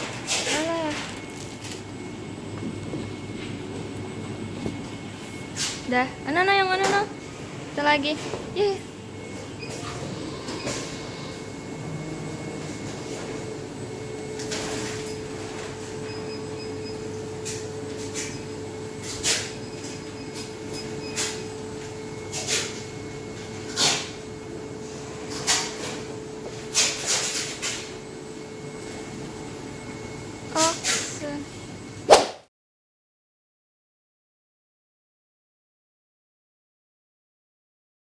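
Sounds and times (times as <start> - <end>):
steady machine hum: 0.0 - 32.1.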